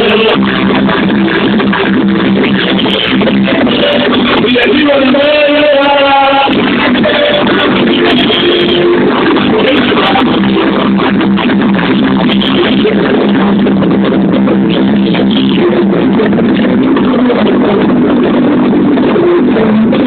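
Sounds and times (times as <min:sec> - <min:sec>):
loud music over sound system: 0:00.0 - 0:20.0.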